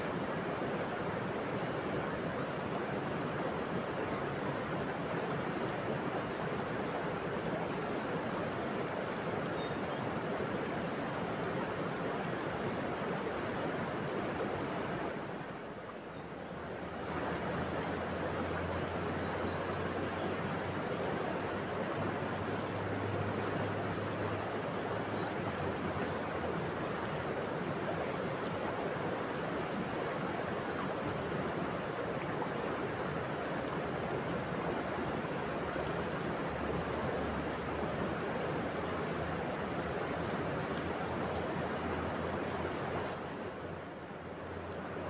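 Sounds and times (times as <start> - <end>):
river flowing over rocks: 0.0 - 45.0.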